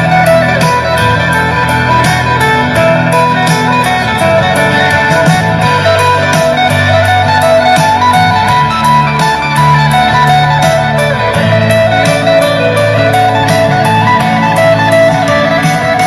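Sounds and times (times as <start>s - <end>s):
music with beat through speaker: 0.0s - 16.0s.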